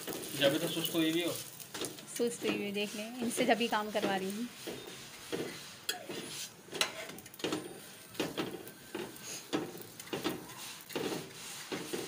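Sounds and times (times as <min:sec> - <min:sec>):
utensils knocking and scraping on pan: 0:00.0 - 0:12.0.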